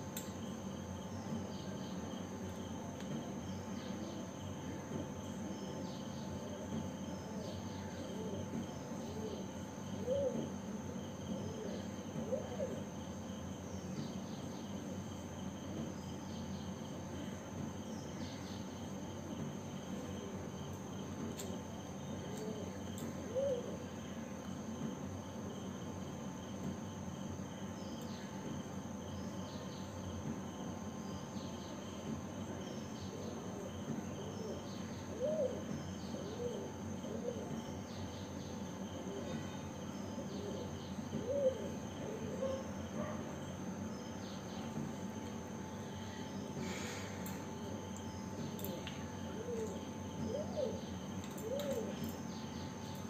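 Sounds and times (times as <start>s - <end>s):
background hum: 0.0s - 53.0s.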